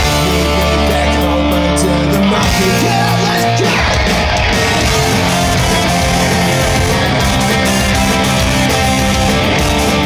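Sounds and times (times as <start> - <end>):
live pop-punk band playing: 0.0 - 10.0.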